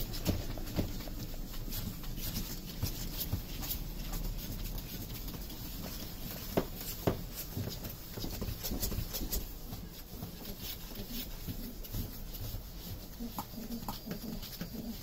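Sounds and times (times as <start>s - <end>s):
puppy paws tapping and scuffing: 0.0s - 15.0s.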